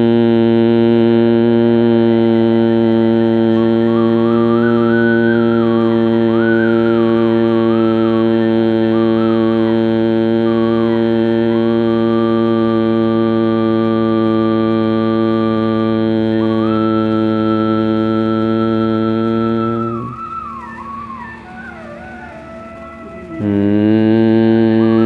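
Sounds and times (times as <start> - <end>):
man humming low pitch: 0.0 - 25.0
higher wavering tone: 2.7 - 25.0.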